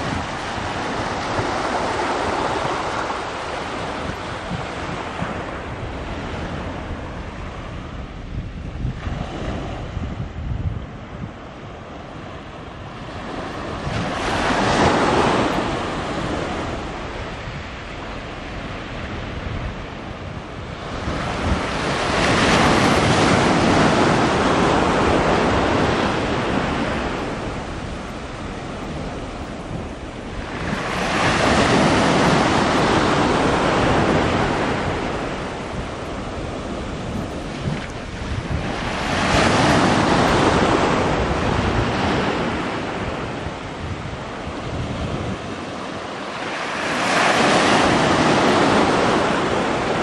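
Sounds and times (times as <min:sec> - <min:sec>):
waves washing onto shore: 0:00.0 - 0:50.0
wind rumbling on microphone: 0:00.0 - 0:50.0.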